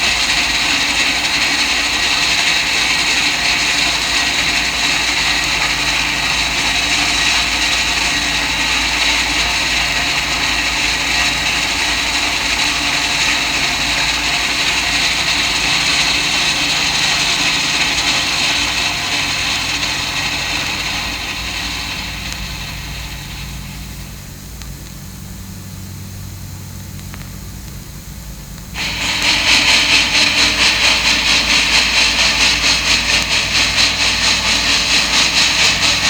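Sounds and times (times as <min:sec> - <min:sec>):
steam locomotive working: 0:00.0 - 0:27.5, 0:28.6 - 0:36.0.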